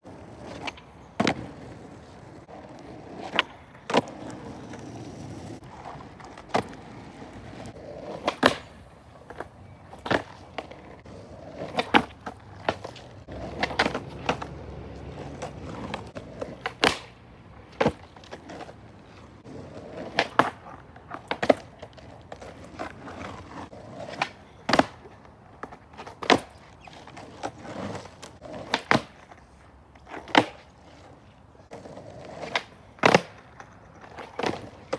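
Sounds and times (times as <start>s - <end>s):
skateboard wheels rolling on pavement: 0.0s - 34.9s
skateboard clacks: 0.1s - 34.9s.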